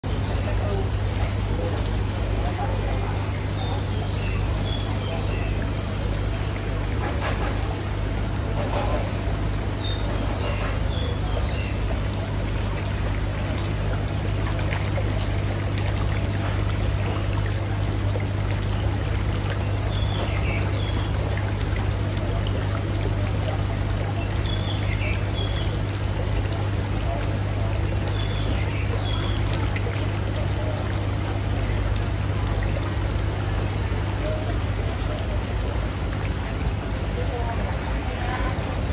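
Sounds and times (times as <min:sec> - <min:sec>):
constant low hum: 0:00.0 - 0:38.9
water splashing into tanks: 0:00.0 - 0:38.9.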